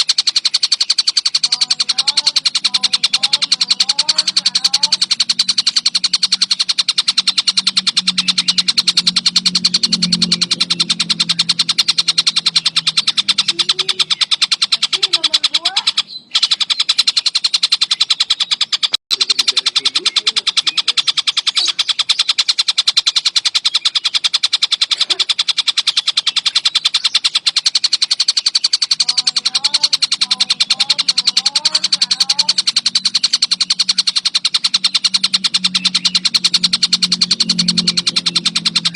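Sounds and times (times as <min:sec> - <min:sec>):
songbird fast trill: 0:00.0 - 0:38.9.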